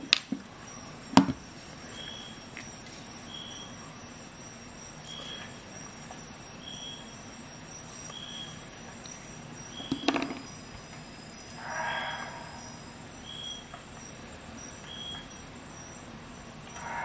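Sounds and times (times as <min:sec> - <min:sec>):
low steady hum: 0:00.0 - 0:17.0
faint high beep: 0:01.8 - 0:17.0.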